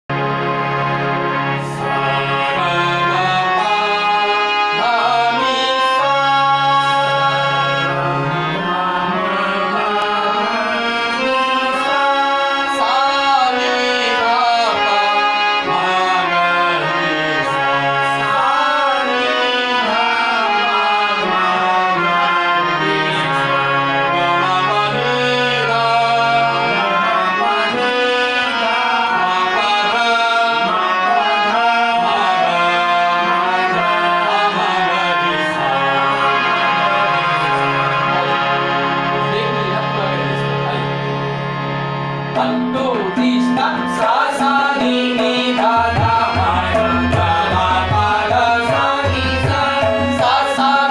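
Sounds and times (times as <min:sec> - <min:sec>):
harmoniums playing a melody: 0:00.0 - 0:50.9
man singing ornamented phrases: 0:01.6 - 0:41.2, 0:42.3 - 0:50.9.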